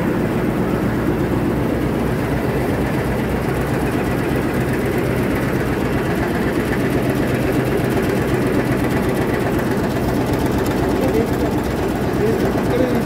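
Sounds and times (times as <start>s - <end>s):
low drone: 0.0s - 13.0s
machinery humming: 0.0s - 13.0s.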